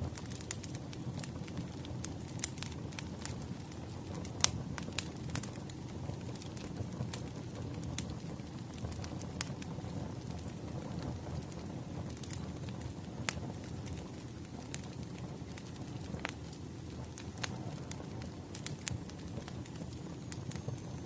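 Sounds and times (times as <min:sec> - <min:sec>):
firewood crackling: 0:00.0 - 0:21.0.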